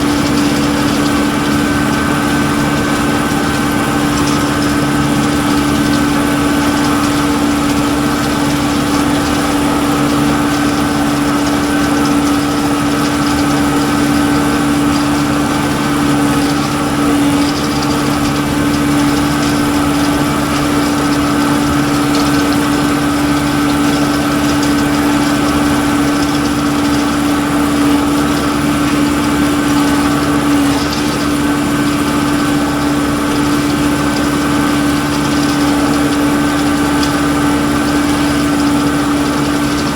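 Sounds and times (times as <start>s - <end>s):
machine hum: 0.0s - 39.9s
tractor engine running: 0.0s - 39.9s.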